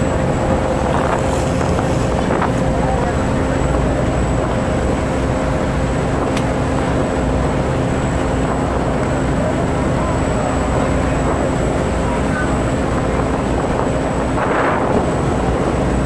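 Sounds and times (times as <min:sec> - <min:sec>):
ferry engines rumbling: 0:00.0 - 0:16.0
water rushing: 0:00.0 - 0:16.0
wind: 0:00.0 - 0:16.0.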